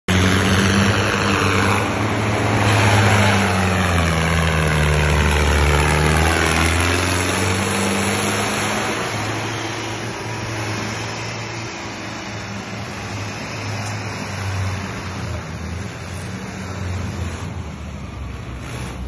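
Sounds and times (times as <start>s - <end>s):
tractor diesel engine revving: 0.1s - 19.0s.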